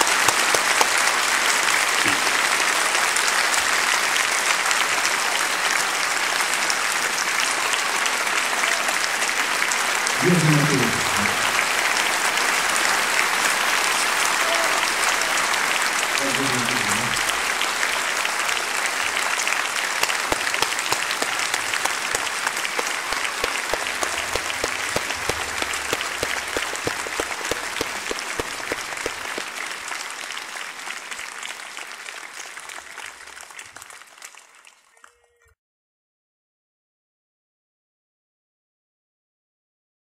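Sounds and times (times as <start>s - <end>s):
audience applauding: 0.0s - 35.5s.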